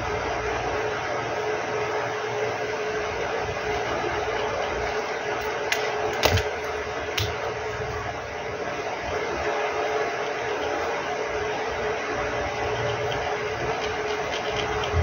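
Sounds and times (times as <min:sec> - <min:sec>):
faint hum: 0:00.0 - 0:15.0
fan blowing hiss: 0:00.0 - 0:15.0.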